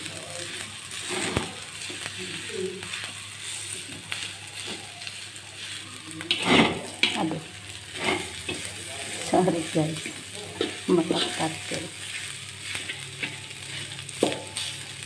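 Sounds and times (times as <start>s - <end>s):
rice sizzling in a wok: 0.0s - 15.0s
metal spatula scraping a pan: 0.9s - 14.9s.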